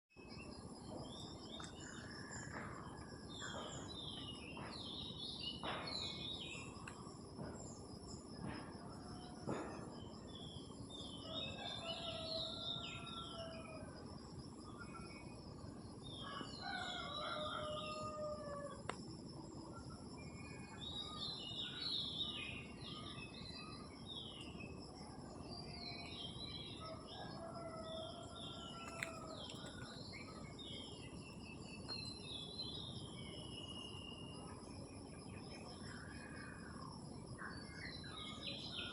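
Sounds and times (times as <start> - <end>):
crickets chirping: 0.2 - 38.9
songbirds chirping and singing: 0.2 - 38.9.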